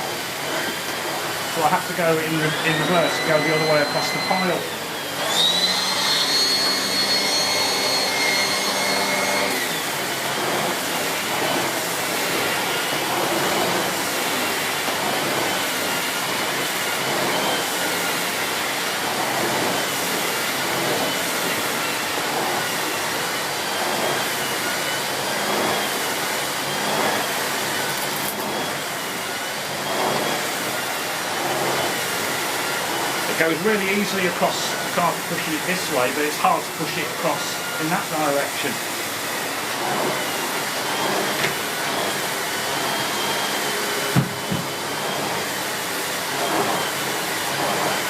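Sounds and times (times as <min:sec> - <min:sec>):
vacuum cleaner motor whining: 0:00.0 - 0:48.0.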